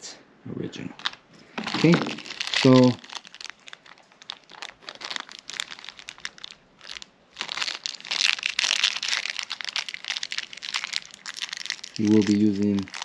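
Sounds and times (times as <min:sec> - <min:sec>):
packaging crinkling: 0:01.0 - 0:13.0.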